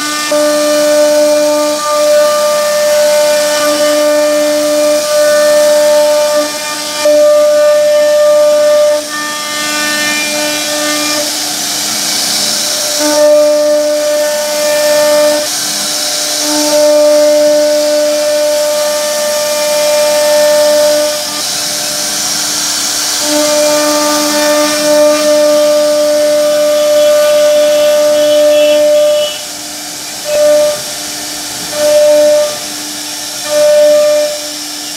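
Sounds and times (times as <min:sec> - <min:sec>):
cnc router spindle whining: 0:00.0 - 0:34.9
hiss of bit cutting wood: 0:00.0 - 0:34.9.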